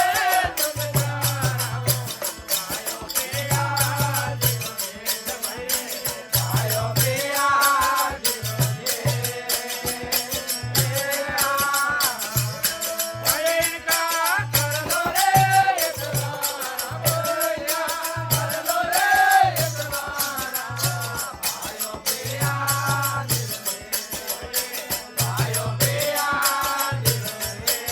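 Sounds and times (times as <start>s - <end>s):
jingling hand percussion: 0.0s - 27.9s.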